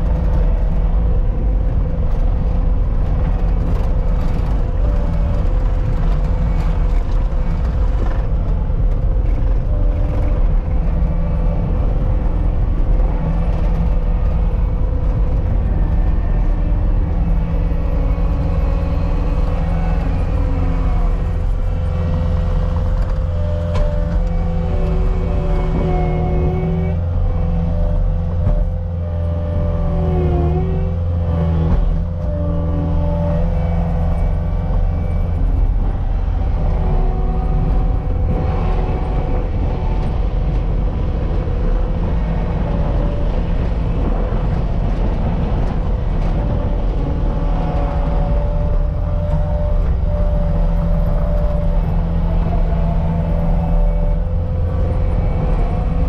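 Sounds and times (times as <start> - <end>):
track loader engine droning: 0.0 - 56.0.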